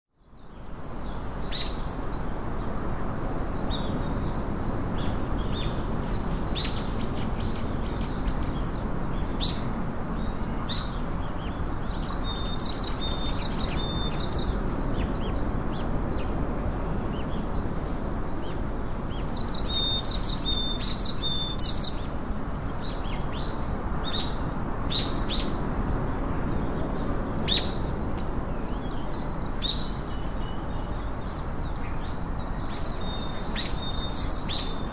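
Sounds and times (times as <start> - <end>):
small birds chirping: 0.1 - 25.6, 26.2 - 34.9.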